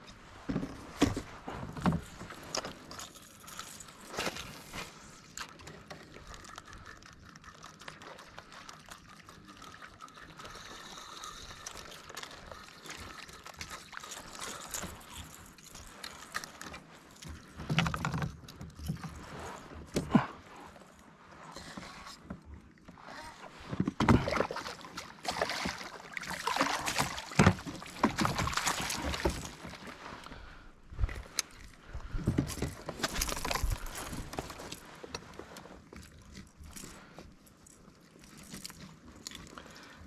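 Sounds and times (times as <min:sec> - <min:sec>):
water sloshing and dribbling: 0:00.0 - 0:40.0.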